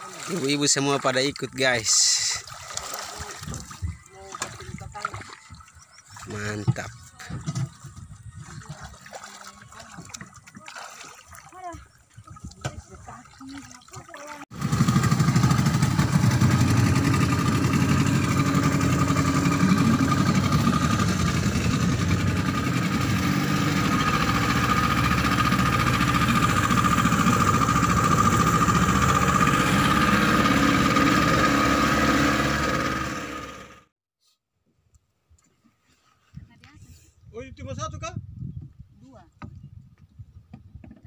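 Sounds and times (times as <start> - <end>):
outboard motors running: 0.0 - 33.9.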